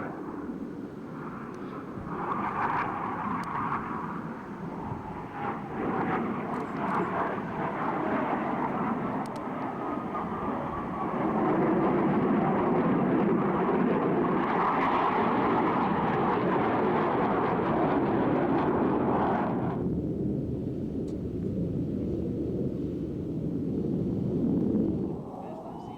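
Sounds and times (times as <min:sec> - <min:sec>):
jets in flight rushing: 0:00.0 - 0:25.9.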